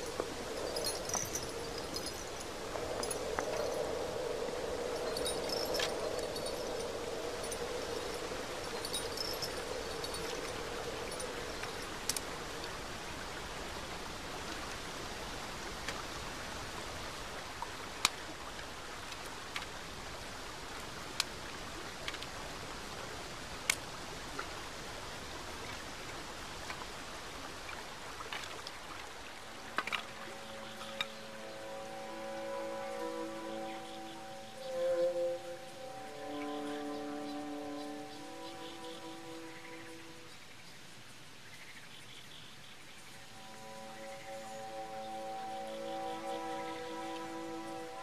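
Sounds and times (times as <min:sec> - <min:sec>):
river water rushing: 0:00.0 - 0:41.4, 0:42.8 - 0:48.0.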